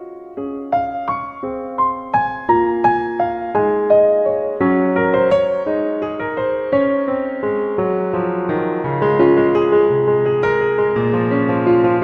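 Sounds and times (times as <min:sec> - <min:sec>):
piano playing gentle melody: 0:00.0 - 0:12.0.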